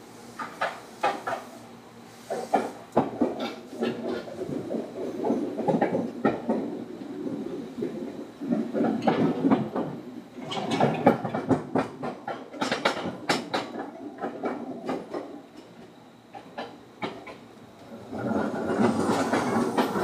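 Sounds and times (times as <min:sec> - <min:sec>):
train running rumble: 0:00.0 - 0:20.0
wheels clicking over rail joints: 0:00.4 - 0:01.6, 0:02.3 - 0:20.0.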